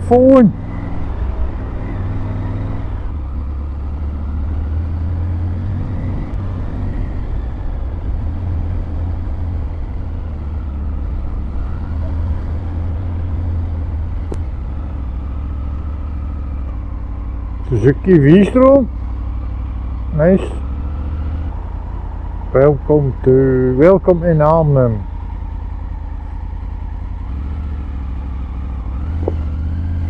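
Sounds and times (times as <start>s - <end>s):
motorcycle engine rumble: 0.0s - 30.0s
road and wind noise: 0.0s - 30.0s.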